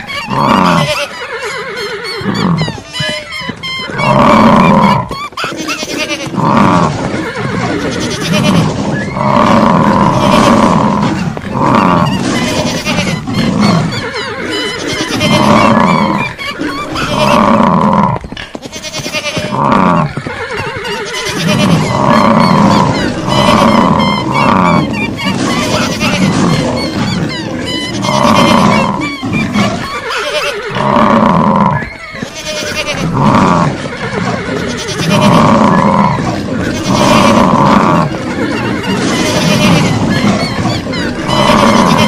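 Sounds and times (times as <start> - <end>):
animal calls: 0.0 - 42.0
continuous rough noise: 2.2 - 42.0.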